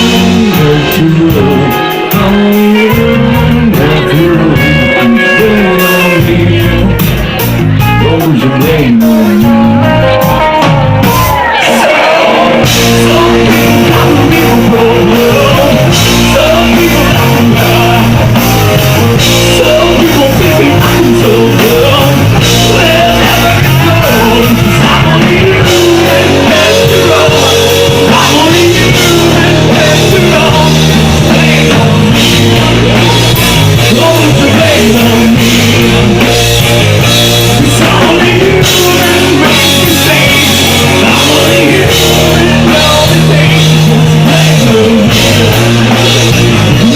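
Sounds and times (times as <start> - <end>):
drum kit: 0.0 - 46.9
electric guitar: 0.0 - 46.9
person singing: 0.0 - 46.9.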